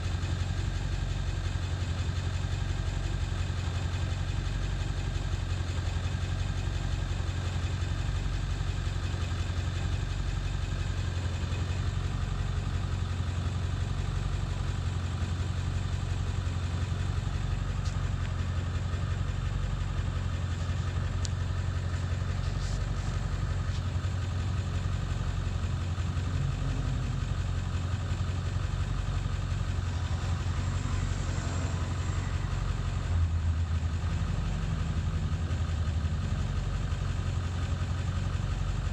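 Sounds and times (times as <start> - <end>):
diesel engine rough idle: 0.0 - 38.9.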